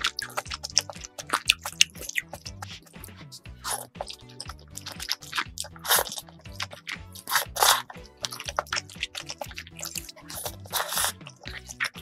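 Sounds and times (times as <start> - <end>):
chewing mouth sounds: 0.0 - 12.0
loud noodle slurping: 0.0 - 12.0
soft background music: 0.0 - 12.0.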